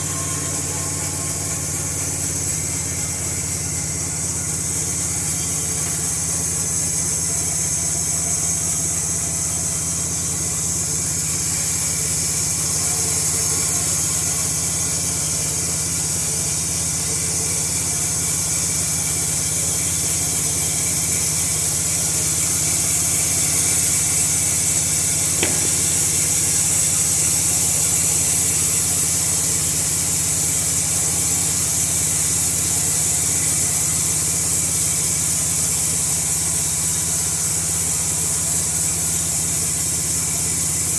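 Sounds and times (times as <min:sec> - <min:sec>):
high hiss: 0:00.0 - 0:16.3, 0:19.3 - 0:40.9
sawmill engine running: 0:00.0 - 0:40.9.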